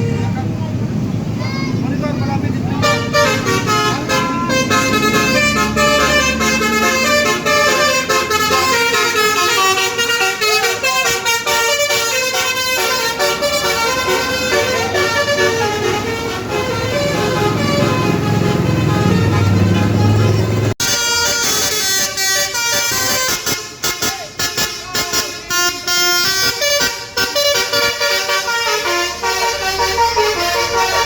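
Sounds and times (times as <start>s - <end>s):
bus engine running: 0.0s - 24.7s, 25.4s - 31.0s
multi-trumpet bus horn tune: 2.7s - 31.0s.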